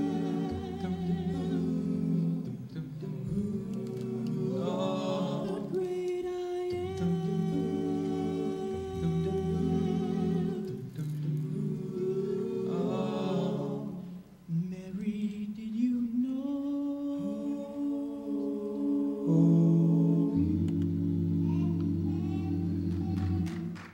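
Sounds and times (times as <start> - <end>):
vocal group humming chords: 0.0 - 14.5, 16.6 - 23.9.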